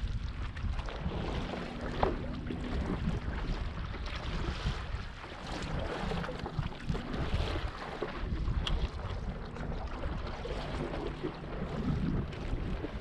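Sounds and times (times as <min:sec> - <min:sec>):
water splashing and lapping: 0:00.0 - 0:13.0
wind buffeting microphone: 0:00.0 - 0:13.0.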